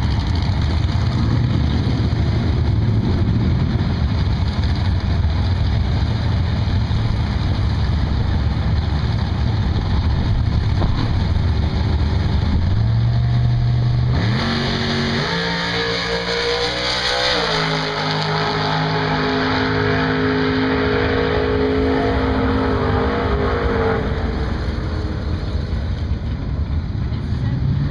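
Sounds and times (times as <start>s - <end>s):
drag race car engine revving: 0.0s - 27.9s.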